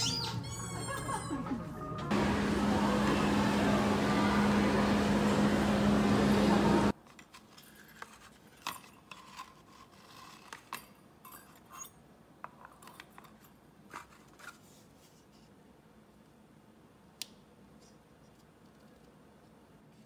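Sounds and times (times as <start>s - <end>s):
low hum of eating area: 0.0s - 20.0s.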